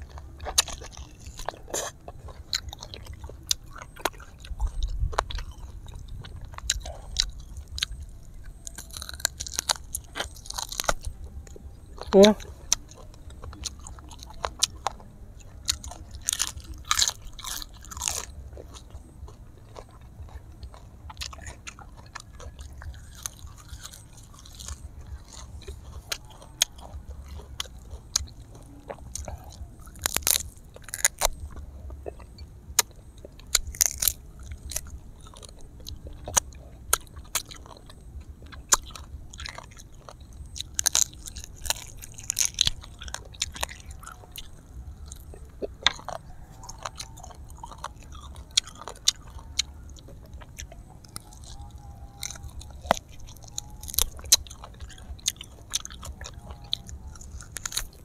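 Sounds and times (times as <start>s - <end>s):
crunchy bites: 0.0s - 58.0s
person chewing: 0.0s - 58.0s.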